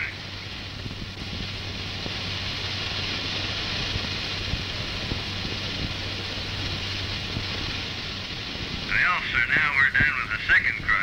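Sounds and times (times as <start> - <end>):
low hum: 0.0 - 11.0
skids rushing over dry ground: 0.0 - 11.0.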